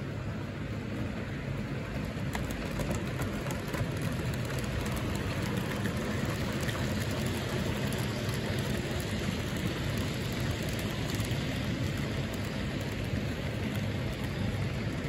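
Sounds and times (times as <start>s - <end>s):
model train rumbling: 0.0s - 15.0s
wheels clicking on rail joints: 0.8s - 15.0s.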